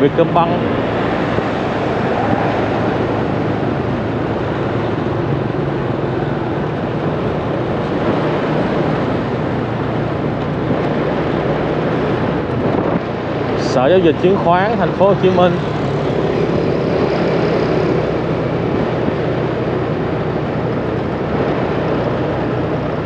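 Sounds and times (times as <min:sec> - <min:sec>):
road noise: 0:00.0 - 0:23.0
vehicle engine hum: 0:00.0 - 0:23.0.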